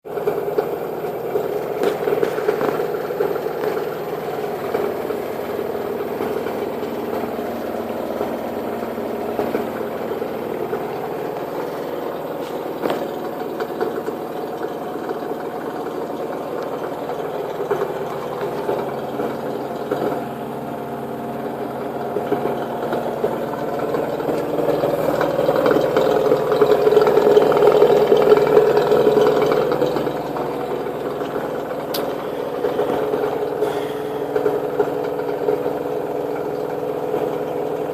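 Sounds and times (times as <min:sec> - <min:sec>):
washing machine spinning: 0:00.0 - 0:37.9.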